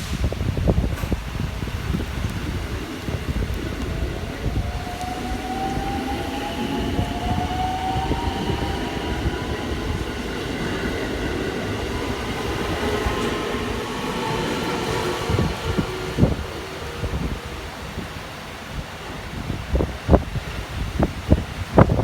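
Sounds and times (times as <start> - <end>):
train wheels rumbling on rails: 0.0 - 22.0
train motors whining: 1.0 - 18.7.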